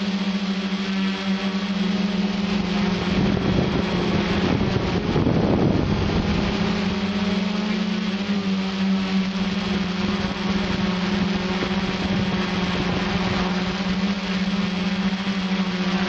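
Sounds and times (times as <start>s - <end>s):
drone propellers humming: 0.0s - 16.0s
rushing wind-like noise: 0.0s - 16.0s.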